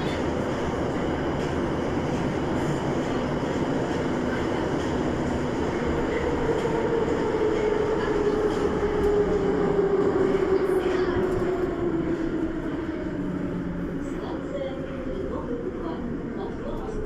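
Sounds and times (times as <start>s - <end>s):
metro train wheels rumbling: 0.0s - 17.0s.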